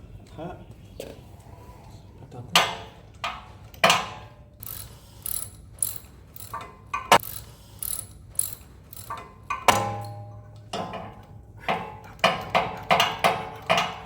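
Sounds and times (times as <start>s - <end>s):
wrench clinking on metal: 2.6s - 14.0s.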